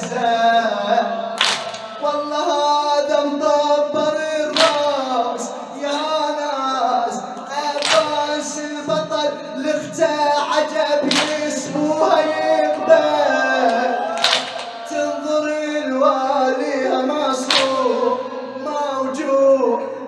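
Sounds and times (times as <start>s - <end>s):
men chanting a lament: 0.0s - 20.0s.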